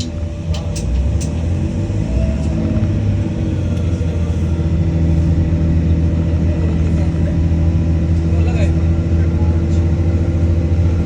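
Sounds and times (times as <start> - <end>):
diesel train rumbling: 0.0 - 11.0.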